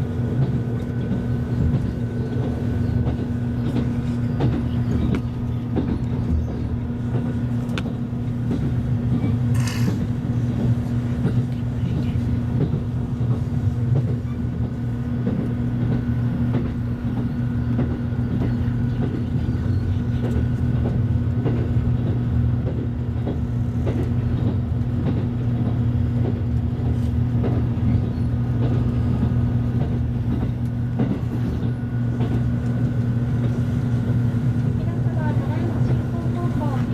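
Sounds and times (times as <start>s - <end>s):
train interior low hum: 0.0s - 36.9s
wheels clicking on rails: 0.0s - 36.9s.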